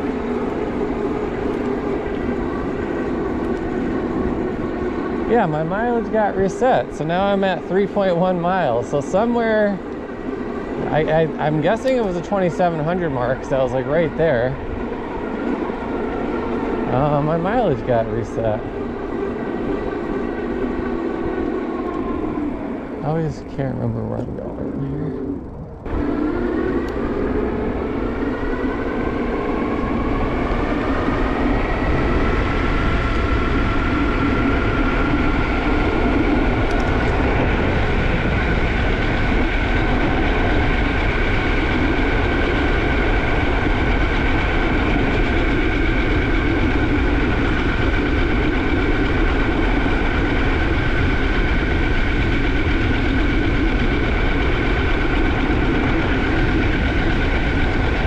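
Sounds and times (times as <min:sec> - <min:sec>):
electric motor whining: 0:00.0 - 0:58.0
wind and road noise: 0:00.0 - 0:58.0.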